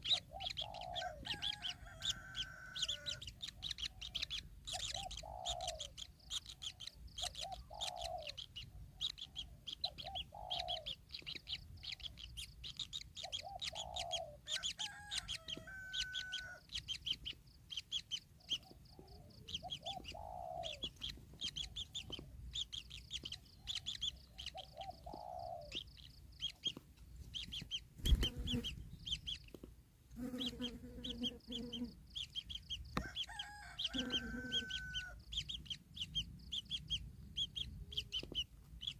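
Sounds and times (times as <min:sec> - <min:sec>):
high bird chirps: 0:00.0 - 0:29.6, 0:30.2 - 0:38.9
falling bird clucking calls: 0:00.0 - 0:38.9.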